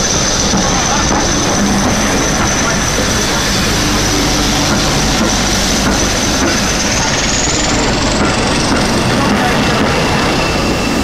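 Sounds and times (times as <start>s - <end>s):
high engine whine: 0.0s - 11.0s
train locomotives working: 0.0s - 11.0s.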